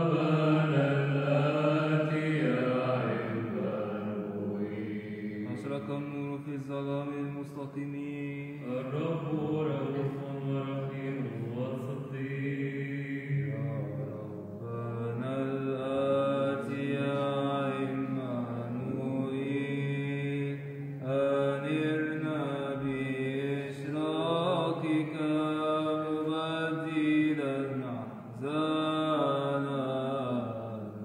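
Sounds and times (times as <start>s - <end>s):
low held vocal drone: 0.0s - 31.0s
melismatic chanting voice: 0.0s - 31.0s.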